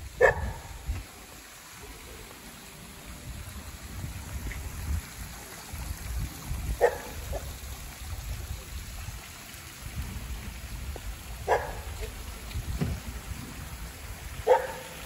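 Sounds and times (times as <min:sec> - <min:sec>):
wind rumble on microphone: 0:00.0 - 0:01.1, 0:03.2 - 0:14.8
creek trickling over rocks: 0:00.0 - 0:15.0.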